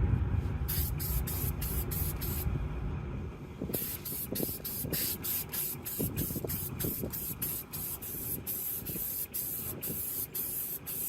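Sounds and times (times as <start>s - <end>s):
spray paint can bursts: 0.7s - 2.4s, 3.7s - 11.0s.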